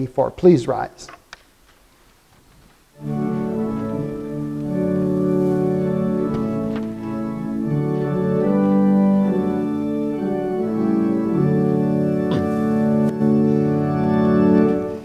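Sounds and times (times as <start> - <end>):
church organ chords: 3.0 - 15.0.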